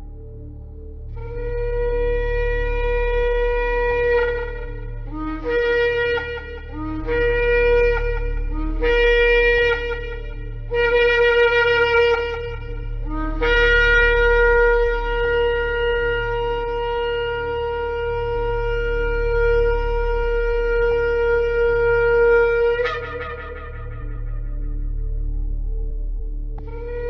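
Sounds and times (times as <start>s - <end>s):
low steady hum: 0.0s - 27.0s
ram's horn blasts: 1.2s - 24.9s.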